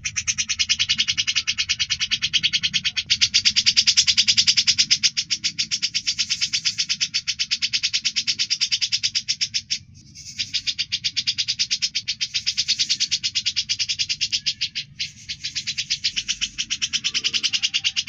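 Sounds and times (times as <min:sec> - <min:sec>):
songbird rattling trill: 0:00.0 - 0:18.0.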